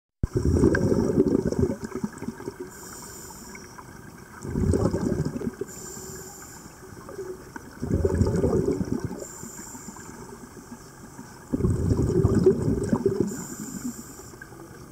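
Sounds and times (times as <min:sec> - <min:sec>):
exhaled bubbles rushing underwater: 0:00.2 - 0:14.9.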